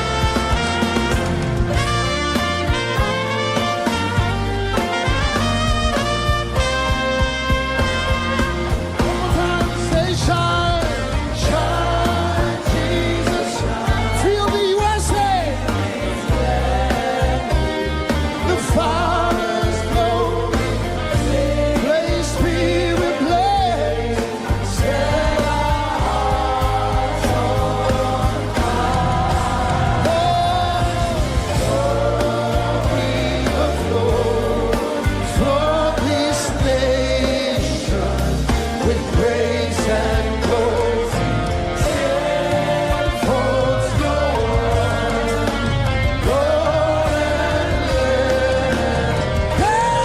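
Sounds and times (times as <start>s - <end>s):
gliding lead melody: 0.0s - 50.0s
heavy bass line: 0.0s - 50.0s
live gospel worship music: 0.0s - 50.0s.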